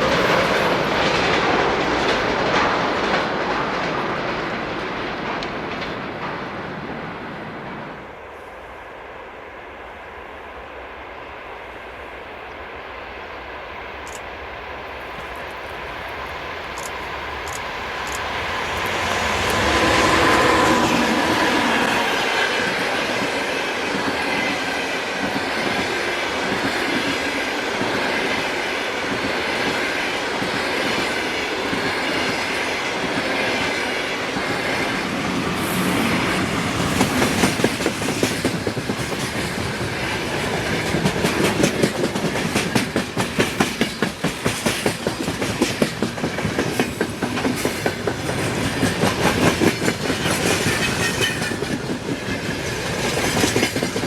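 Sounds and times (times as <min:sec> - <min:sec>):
freight train rushing past: 0:00.0 - 0:54.0.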